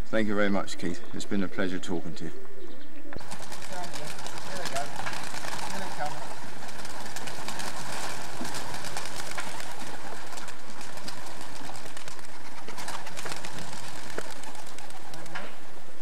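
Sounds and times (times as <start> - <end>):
pigeons cooing: 2.3 - 16.0.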